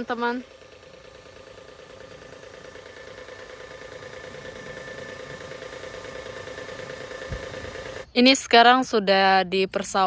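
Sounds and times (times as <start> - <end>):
washer pump humming: 0.0 - 8.1.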